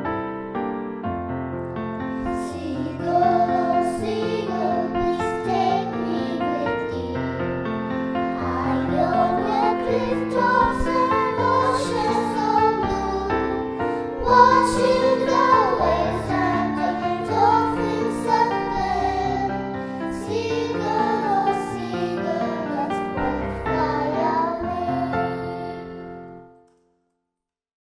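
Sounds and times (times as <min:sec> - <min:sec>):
christian song singing: 0:02.2 - 0:26.5.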